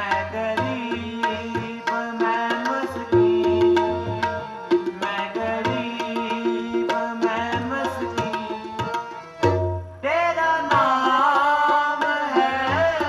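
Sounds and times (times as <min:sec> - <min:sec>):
tabla playing: 0:00.0 - 0:13.0.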